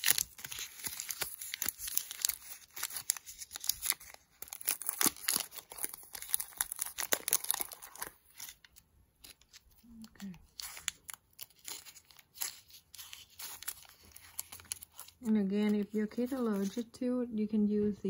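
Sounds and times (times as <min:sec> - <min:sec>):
plastic wrapper crinkling: 0:00.0 - 0:16.9.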